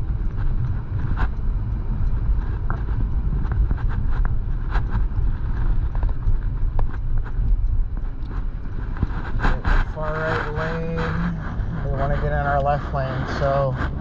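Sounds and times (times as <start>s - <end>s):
vehicle engine and road rumble: 0.0s - 14.0s
light clicks and rattles: 0.1s - 14.0s.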